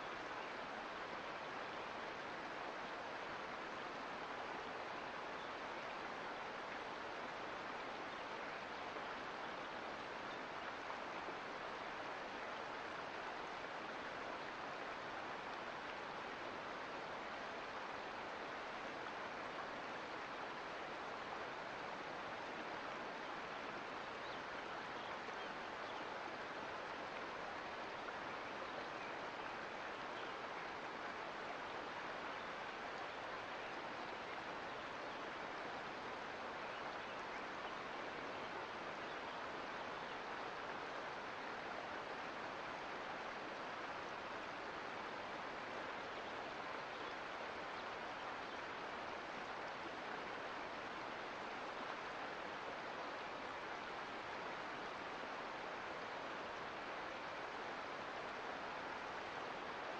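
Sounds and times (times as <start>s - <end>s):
creek flowing: 0.0s - 59.9s.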